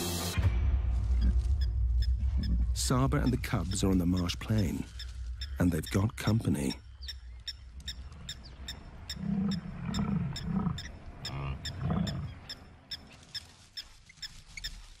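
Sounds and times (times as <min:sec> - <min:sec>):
low animal calls: 0:01.2 - 0:15.0.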